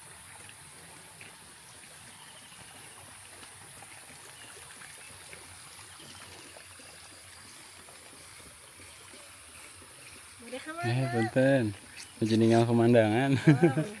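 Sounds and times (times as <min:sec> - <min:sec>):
constant high hiss: 0:00.0 - 0:14.0
water running in stream: 0:00.0 - 0:14.0.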